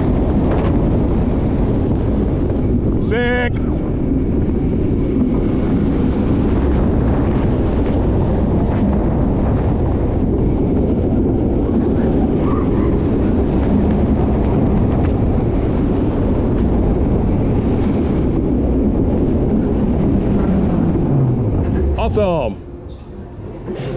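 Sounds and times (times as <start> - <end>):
roller coaster train on track: 0.0 - 23.9
wind buffeting microphone: 0.0 - 23.9.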